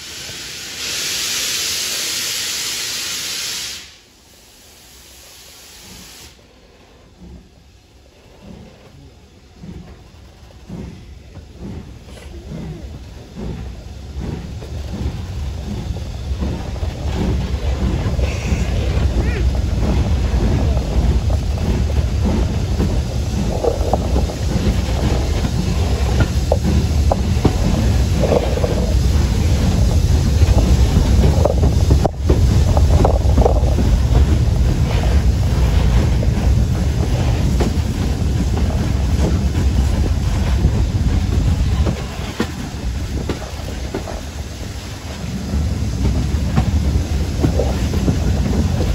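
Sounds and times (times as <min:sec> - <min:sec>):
steam locomotive rumbling: 0:00.0 - 0:48.9
rail clatter: 0:06.7 - 0:48.9
wind buffeting microphone: 0:09.6 - 0:48.9.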